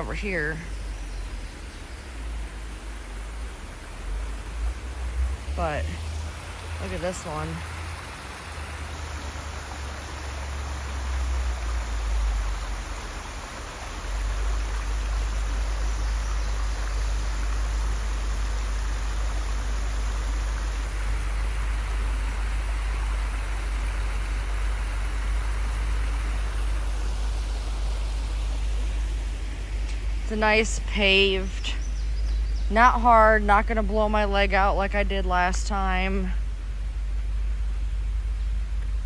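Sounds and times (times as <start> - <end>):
creek water rushing and splashing: 0.0 - 39.0
low rumble: 0.0 - 39.0.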